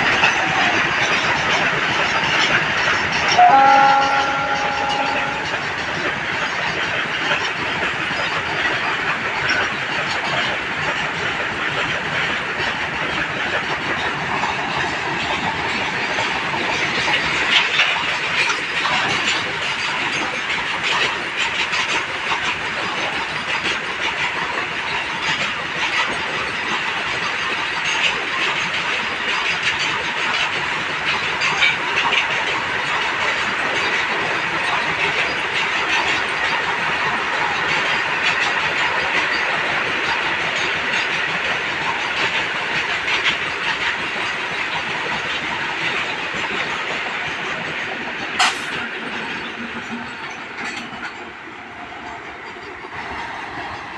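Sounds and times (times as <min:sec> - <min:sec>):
rail-joint clicks: 0:00.0 - 0:53.9
train wheels rumbling on rails: 0:00.0 - 0:53.9.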